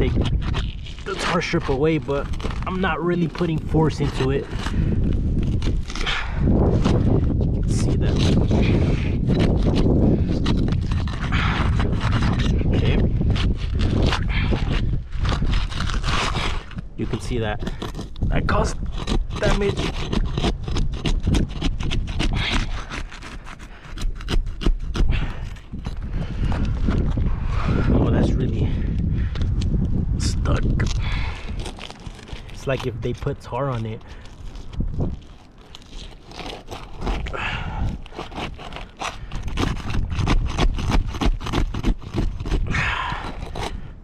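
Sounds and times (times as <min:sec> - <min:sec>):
roof shingle cracking and scraping: 0:00.0 - 0:44.0.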